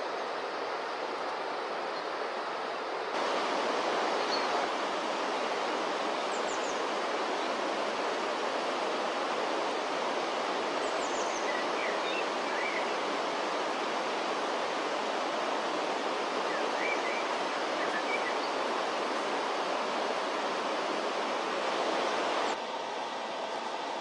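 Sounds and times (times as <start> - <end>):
river water rushing: 0.0 - 22.6.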